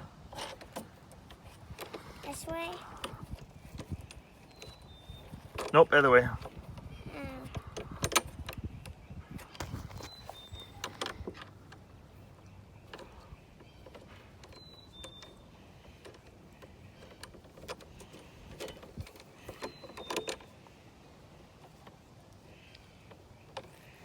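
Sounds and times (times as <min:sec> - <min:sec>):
mower parts clicking and rattling: 0:00.2 - 0:24.0.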